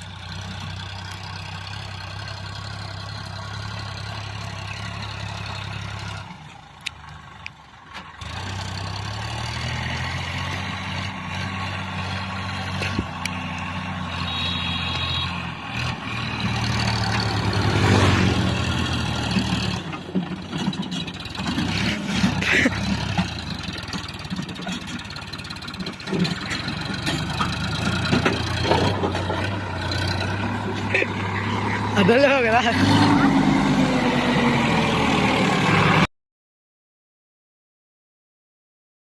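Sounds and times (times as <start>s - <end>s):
tractor diesel engine running: 0.0s - 36.1s.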